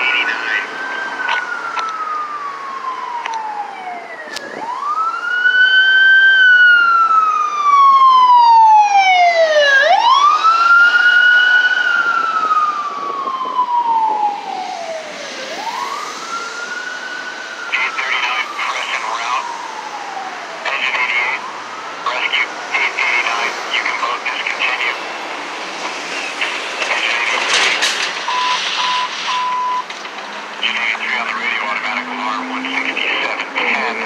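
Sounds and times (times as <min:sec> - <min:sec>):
ambulance siren wailing: 0:00.0 - 0:34.0.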